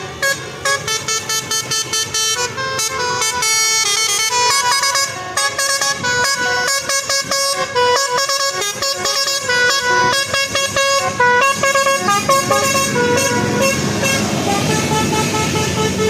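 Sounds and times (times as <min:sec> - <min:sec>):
multi-tone air horn melody: 0:00.0 - 0:16.0.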